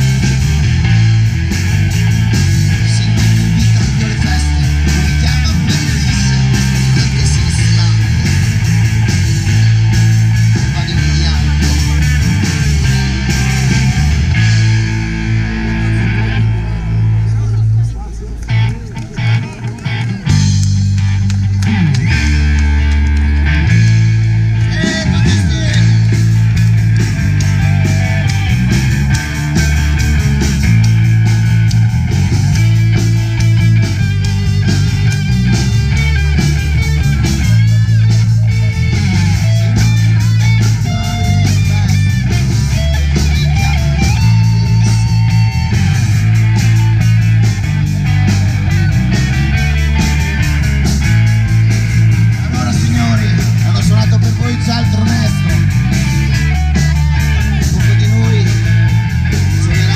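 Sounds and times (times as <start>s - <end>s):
bass guitar: 0.0s - 59.9s
electric guitar: 0.0s - 59.9s
live rock band playing: 0.0s - 59.9s.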